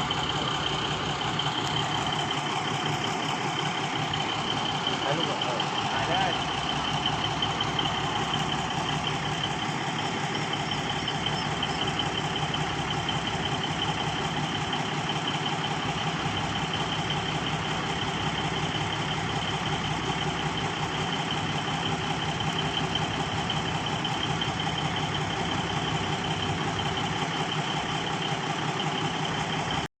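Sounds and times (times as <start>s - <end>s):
train diesel engine humming: 0.0s - 29.9s.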